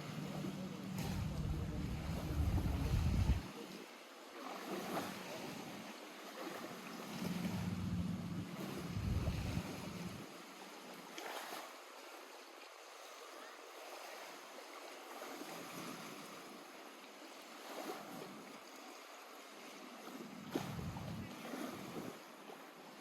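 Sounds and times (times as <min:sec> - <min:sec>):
water lapping at shore: 0:00.0 - 0:23.0.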